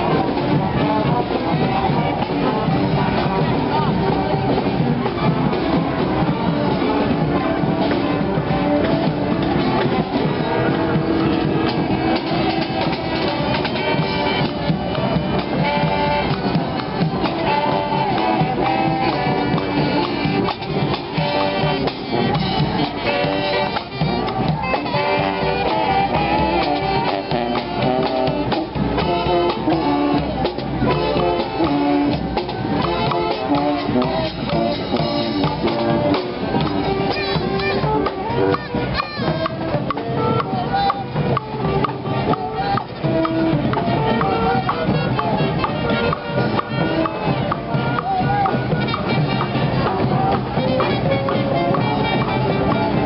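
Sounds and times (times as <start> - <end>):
brass band playing: 0.0 - 53.0
drums: 0.0 - 53.0
horns playing a tune: 0.0 - 53.0.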